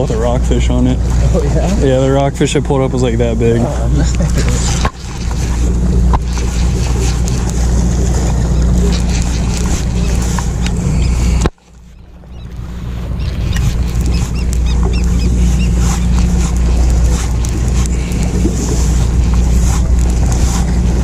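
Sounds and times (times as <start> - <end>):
boat engine humming: 0.0 - 21.0
water noise: 0.0 - 21.0
wind: 0.0 - 21.0.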